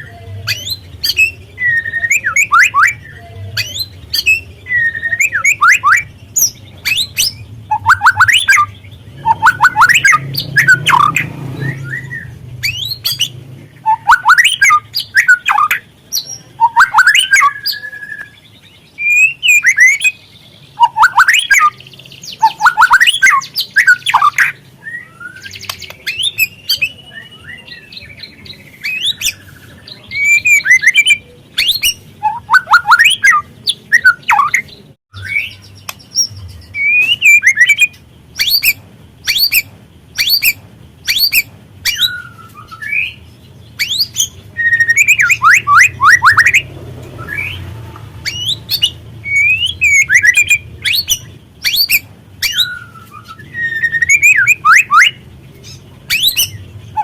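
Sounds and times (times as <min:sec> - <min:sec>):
bird whistled notes: 0:00.0 - 0:18.4, 0:19.0 - 0:20.2, 0:20.8 - 0:28.2, 0:28.8 - 0:43.2, 0:43.8 - 0:55.2, 0:56.1 - 0:57.0
bird chattering: 0:00.0 - 0:57.0.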